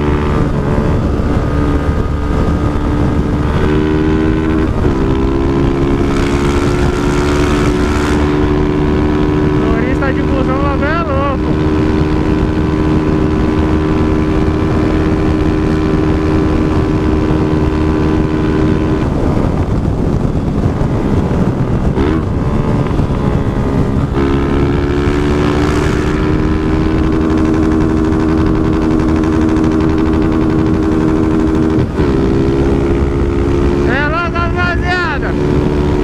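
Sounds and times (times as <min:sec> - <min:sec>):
motorcycle engine: 0:00.0 - 0:36.0
wind rush: 0:00.0 - 0:36.0.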